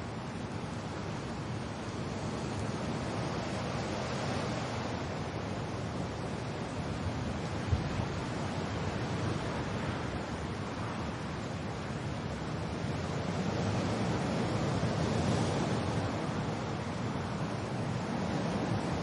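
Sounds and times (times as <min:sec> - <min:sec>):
rain: 0:00.0 - 0:19.0
wind: 0:00.0 - 0:19.0.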